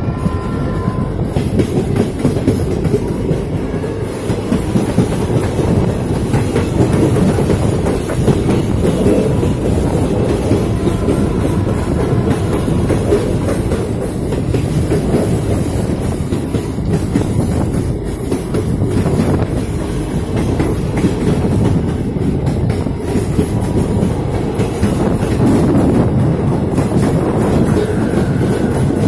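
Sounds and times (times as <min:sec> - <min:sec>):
train rumbling on track: 0:00.0 - 0:29.0
wheels clicking over rail joints: 0:01.3 - 0:29.0.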